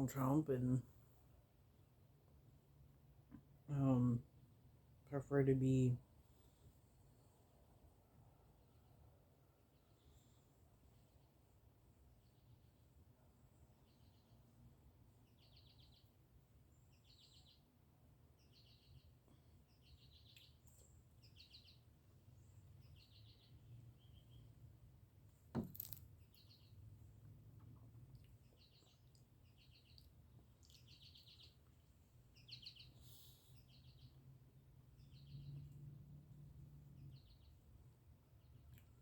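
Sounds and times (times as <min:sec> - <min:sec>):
faint small birds chirping: 0:00.0 - 0:39.0.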